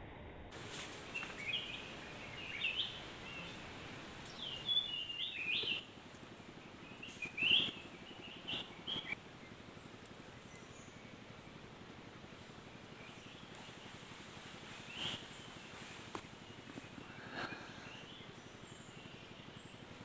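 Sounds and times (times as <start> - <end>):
faint steady background noise: 0.0 - 20.0
small birds chirping: 0.7 - 20.0.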